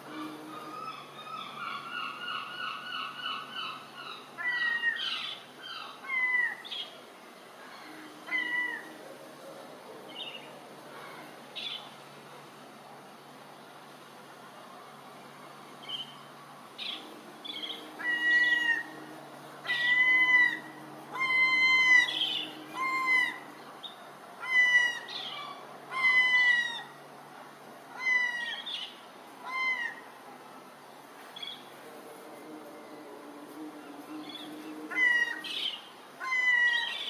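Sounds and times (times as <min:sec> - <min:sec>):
gulls calling: 0:00.0 - 0:07.0, 0:07.6 - 0:12.0, 0:15.6 - 0:27.1, 0:27.9 - 0:30.2, 0:31.3 - 0:37.0.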